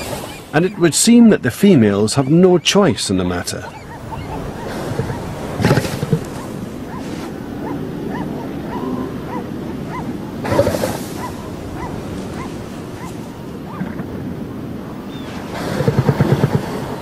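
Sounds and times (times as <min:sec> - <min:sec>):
elephant seals calling: 0:00.0 - 0:14.4, 0:15.0 - 0:17.0
surf washing: 0:00.0 - 0:17.0.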